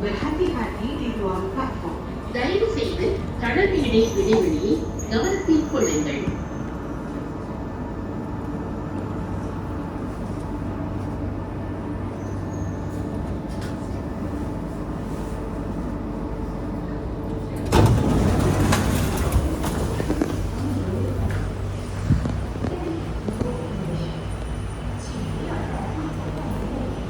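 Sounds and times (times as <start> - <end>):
train electrical hum: 0.0 - 27.0.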